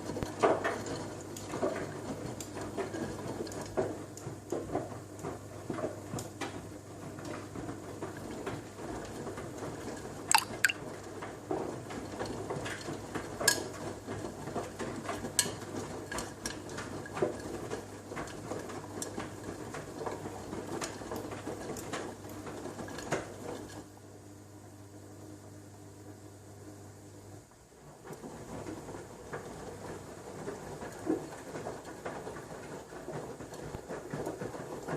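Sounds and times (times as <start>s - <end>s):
water sloshing in washing machine: 0.0s - 23.8s, 27.8s - 34.9s
washing machine hum: 0.0s - 34.9s.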